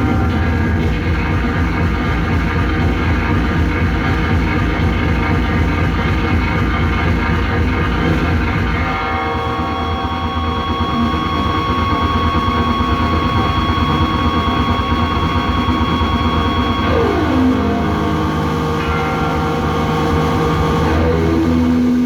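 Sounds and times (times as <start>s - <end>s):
low drone: 0.0s - 22.0s
steady droning tones: 0.0s - 22.0s
wall of electronic noise: 0.0s - 22.0s.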